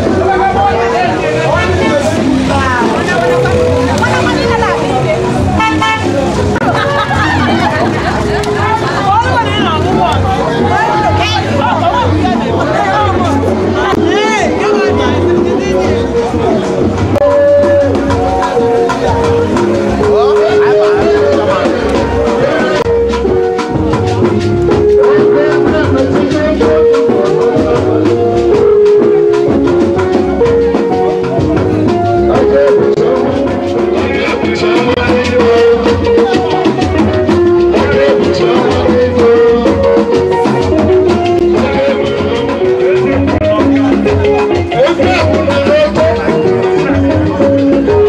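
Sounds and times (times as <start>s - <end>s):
melody of held notes: 0.0s - 48.0s
steady drum beat: 0.0s - 48.0s.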